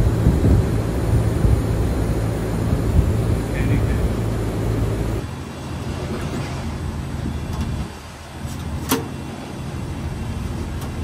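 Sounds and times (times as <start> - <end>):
air conditioning units humming: 0.0 - 11.0.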